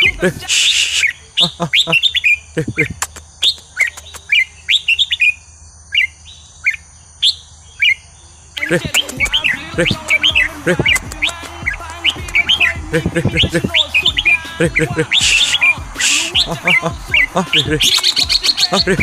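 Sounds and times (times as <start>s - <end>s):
bird chirping song: 0.0s - 19.0s.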